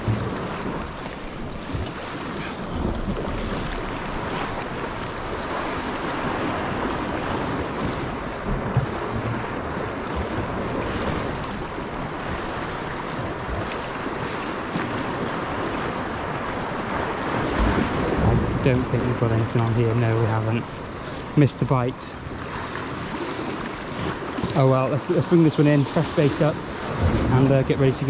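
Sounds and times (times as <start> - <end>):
wind buffeting microphone: 0.0 - 25.3, 26.4 - 28.0
sea waves washing ashore: 0.0 - 28.0.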